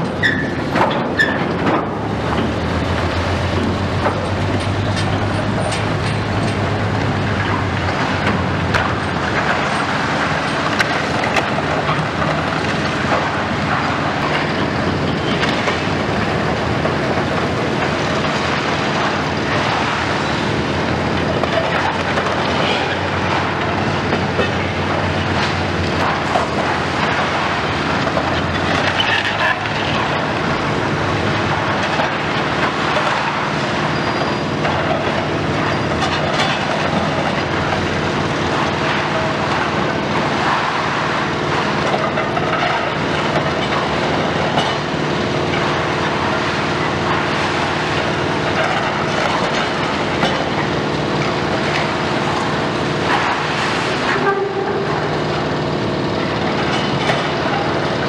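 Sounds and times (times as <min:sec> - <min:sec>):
excavator running: 0:00.0 - 0:58.0.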